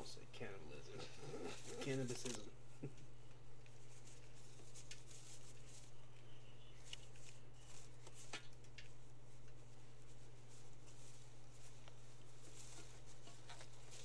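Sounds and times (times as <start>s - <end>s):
low electrical hum: 0.0s - 14.0s
soft rustling: 0.0s - 14.0s.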